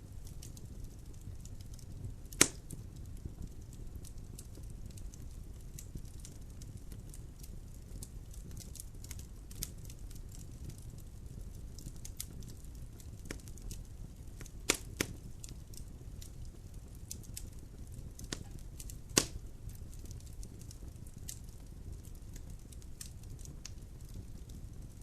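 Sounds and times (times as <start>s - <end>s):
logs crackling in fireplace: 0.0s - 25.0s
low fire rumble: 0.0s - 25.0s.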